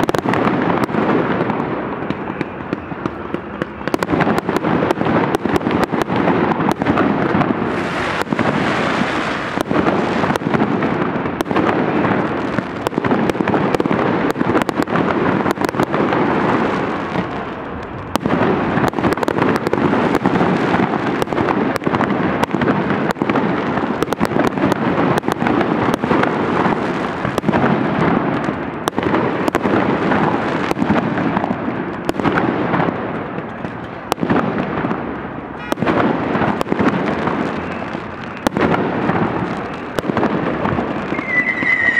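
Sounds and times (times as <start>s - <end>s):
fireworks bangs and crackling: 0.0s - 41.9s.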